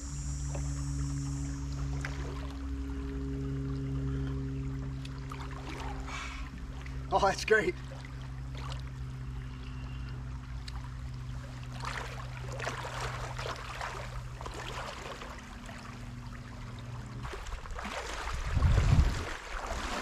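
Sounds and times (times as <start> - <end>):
steady low hum: 0.0 - 20.0
stream water rushing and splashing: 0.5 - 9.6, 10.2 - 20.0.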